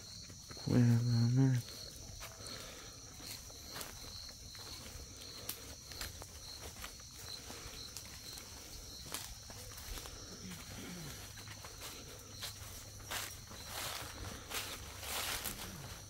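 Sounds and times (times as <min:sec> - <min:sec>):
footsteps on dry leaves and twigs: 0:00.0 - 0:16.0
insects buzzing: 0:00.0 - 0:16.0.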